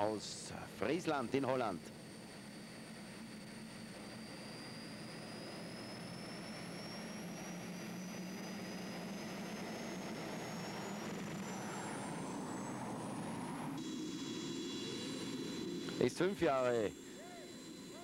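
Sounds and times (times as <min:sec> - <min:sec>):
engine low rumble: 0:00.0 - 0:18.0
tractor engine high whine: 0:00.0 - 0:18.0.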